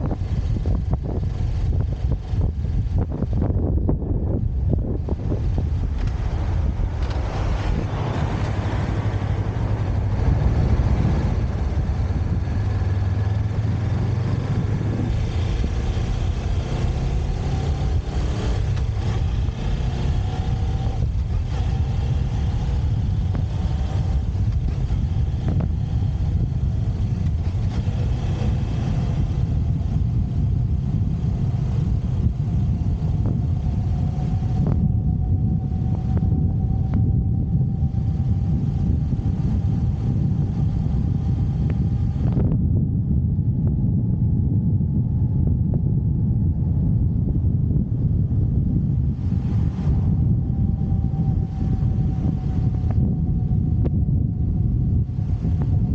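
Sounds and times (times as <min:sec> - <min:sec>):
motorcycle engine running: 0:00.0 - 0:55.9
wind noise on microphone: 0:00.0 - 0:55.9.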